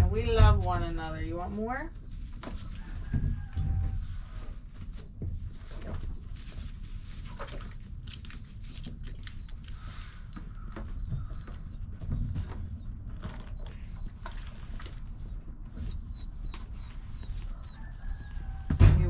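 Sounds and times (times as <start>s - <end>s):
goats rubbing against microphone: 2.0s - 18.7s.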